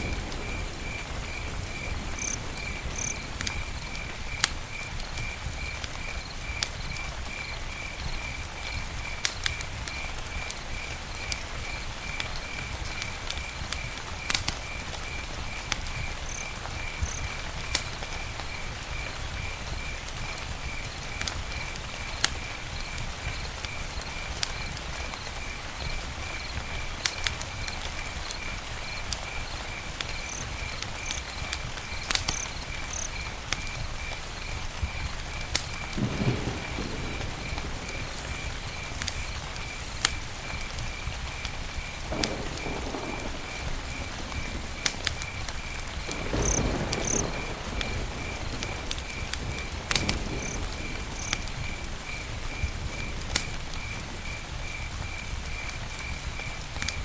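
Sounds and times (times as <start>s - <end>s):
campfire crackling: 0.0s - 57.0s
insect chirping: 0.0s - 57.0s
steady hiss: 0.0s - 57.0s.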